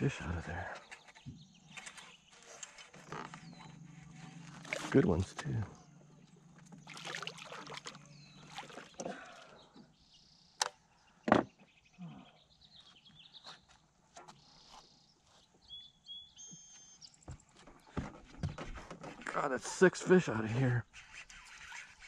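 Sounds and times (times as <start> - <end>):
quiet pond ambience: 0.0 - 22.0.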